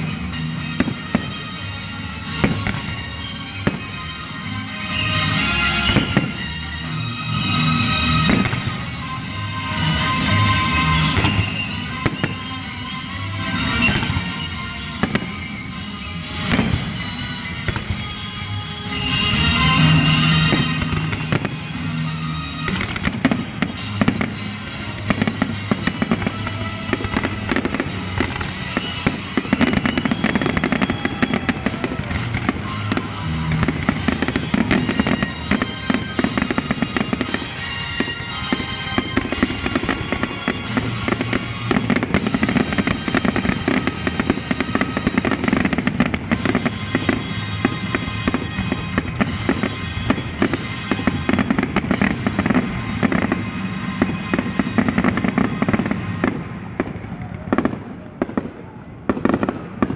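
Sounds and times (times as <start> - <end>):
music playing: 0.0 - 59.9.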